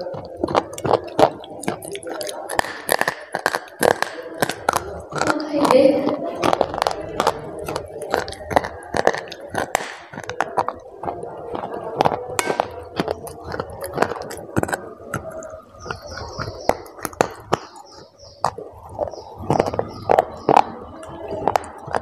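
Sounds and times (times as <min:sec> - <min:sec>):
chocolate snapping and crunching: 0:00.0 - 0:22.0
wet mouth sounds: 0:00.0 - 0:22.0.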